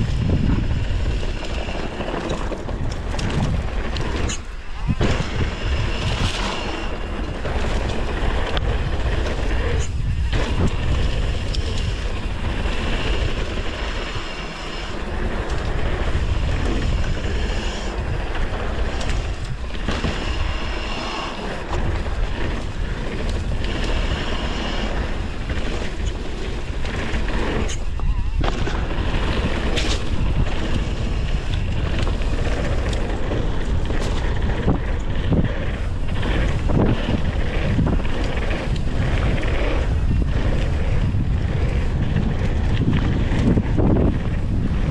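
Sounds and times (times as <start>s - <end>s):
bike rattling: 0.0s - 44.9s
wind buffeting microphone: 0.0s - 44.9s.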